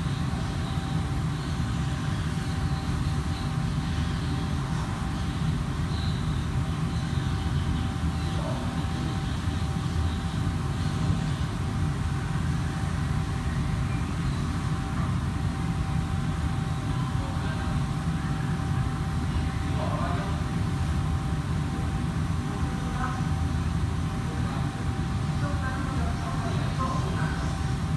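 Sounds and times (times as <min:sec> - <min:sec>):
faint whine: 0:00.0 - 0:27.9
low rumbling hum: 0:00.0 - 0:27.9
faint indistinct voices: 0:00.2 - 0:27.9.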